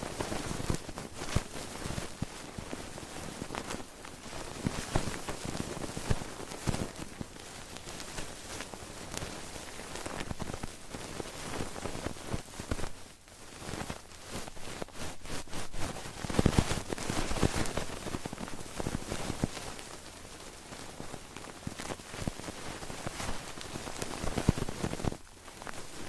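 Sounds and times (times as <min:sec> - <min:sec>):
crackling against microphone: 0:00.0 - 0:26.0.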